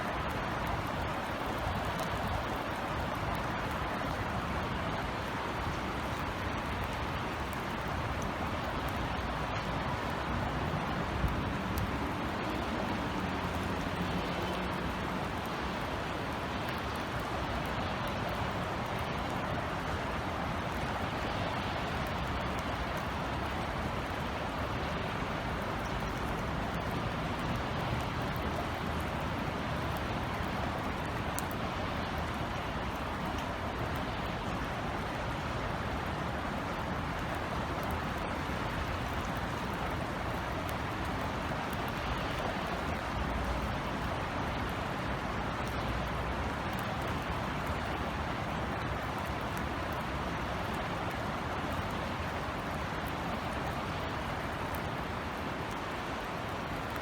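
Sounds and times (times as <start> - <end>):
city background rumble: 0.0 - 57.0
rain falling: 0.0 - 57.0.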